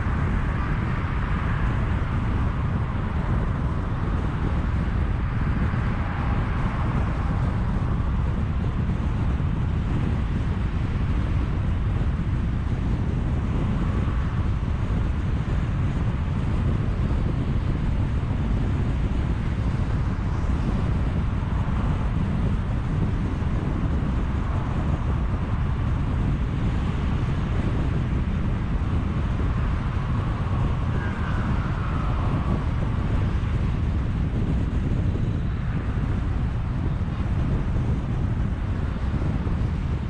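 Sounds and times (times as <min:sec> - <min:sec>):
vehicle road noise: 0:00.0 - 0:40.0
wind buffeting microphone: 0:00.0 - 0:40.0.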